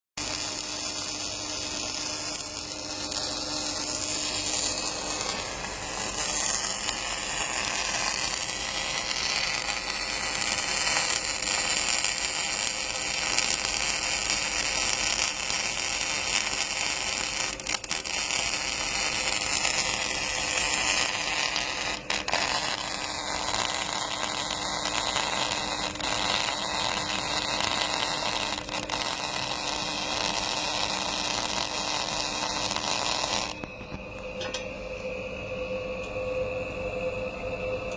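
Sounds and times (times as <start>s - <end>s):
welding arc crackling hiss: 0.2s - 33.7s.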